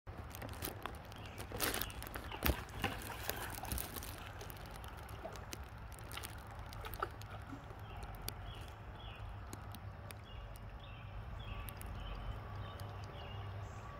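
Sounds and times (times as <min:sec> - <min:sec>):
creek water trickling and splashing: 0:00.1 - 0:13.9.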